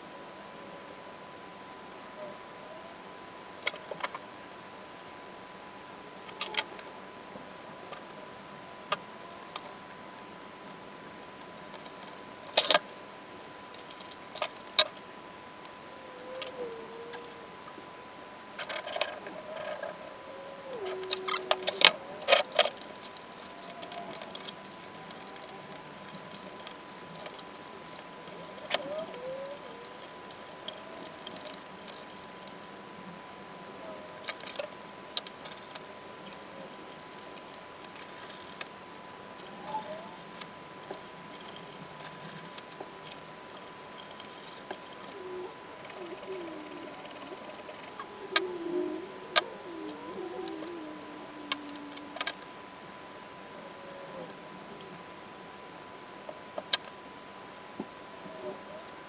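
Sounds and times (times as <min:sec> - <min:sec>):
faint steady high tone: 0:05.3 - 0:37.3, 0:38.0 - 0:43.2, 0:43.9 - 0:55.9.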